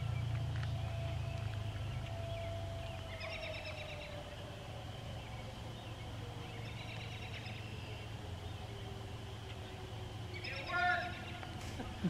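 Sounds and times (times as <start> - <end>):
birds chirping: 0.0 - 12.0
distant warning siren winding down: 0.0 - 12.0
steady low hum: 0.0 - 12.0.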